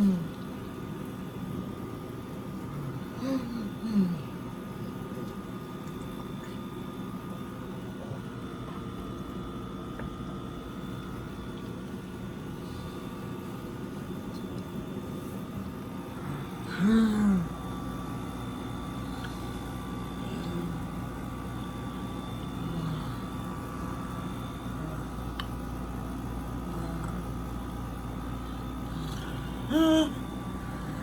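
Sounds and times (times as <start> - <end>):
air conditioners humming and whining: 0.0 - 31.0.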